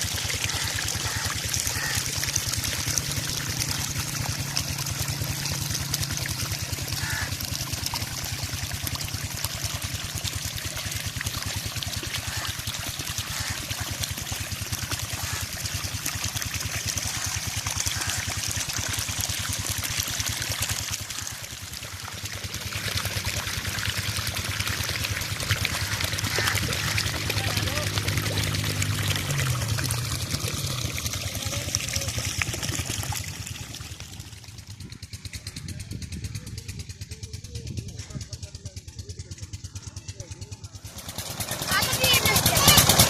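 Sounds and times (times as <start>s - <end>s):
water gushing from pipe: 0.0s - 43.0s.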